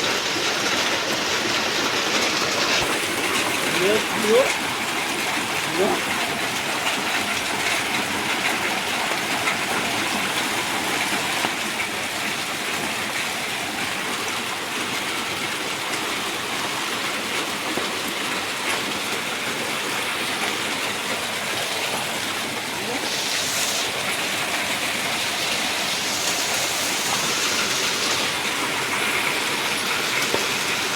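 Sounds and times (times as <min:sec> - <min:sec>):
heavy rain hissing: 0:00.0 - 0:14.7, 0:19.2 - 0:30.9
raindrops hitting surfaces: 0:00.0 - 0:30.9.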